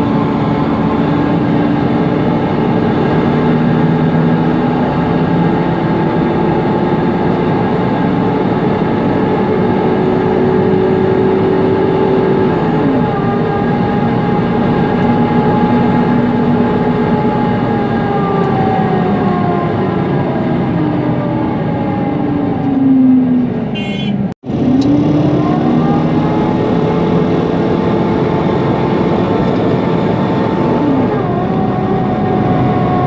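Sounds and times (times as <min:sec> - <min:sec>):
bus engine running: 0:00.0 - 0:33.0
engine cooling fan: 0:00.0 - 0:33.0
road noise: 0:00.0 - 0:33.0.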